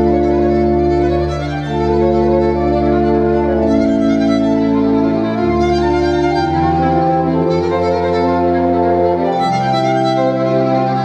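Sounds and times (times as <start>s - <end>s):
bowed violin: 0.0s - 11.0s
pipe organ chords: 0.0s - 11.0s.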